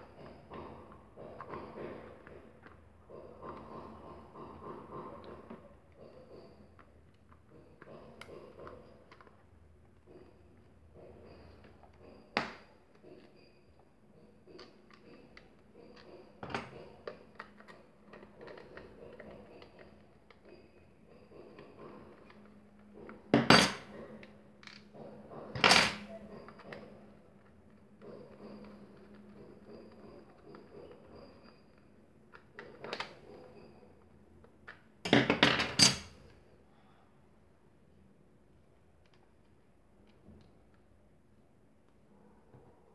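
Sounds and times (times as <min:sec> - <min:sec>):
tools knocking and clattering: 0:00.0 - 0:31.6, 0:32.3 - 0:36.3.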